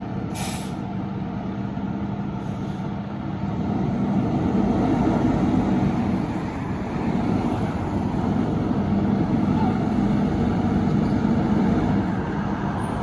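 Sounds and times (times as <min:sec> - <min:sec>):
fire truck engine rumbling: 0:00.0 - 0:13.0.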